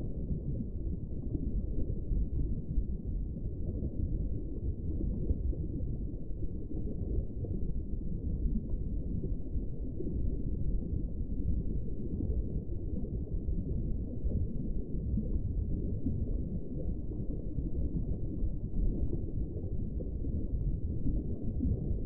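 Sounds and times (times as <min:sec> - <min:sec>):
muffled low rumbling: 0:00.0 - 0:22.0.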